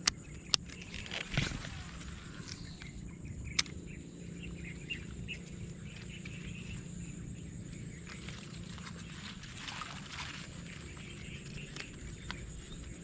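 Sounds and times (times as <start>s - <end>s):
bird chirps: 0.0s - 13.0s
insects buzzing: 0.0s - 13.0s
low rumble: 0.2s - 13.0s.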